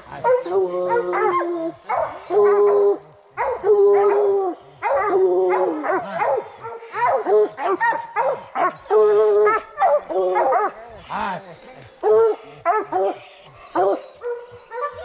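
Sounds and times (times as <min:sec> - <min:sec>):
dogs barking: 0:00.1 - 0:11.0, 0:11.9 - 0:15.0
hounds baying: 0:00.1 - 0:15.0.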